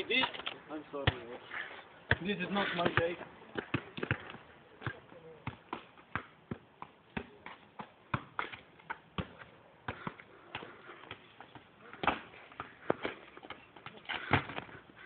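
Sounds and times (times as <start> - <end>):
football bouncing on asphalt: 1.0 - 1.3, 2.0 - 15.0.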